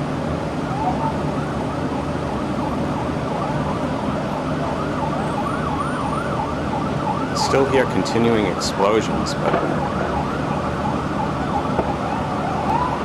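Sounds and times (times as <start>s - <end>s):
emergency siren yelping: 0.0s - 13.0s
street traffic rumble: 0.0s - 13.0s.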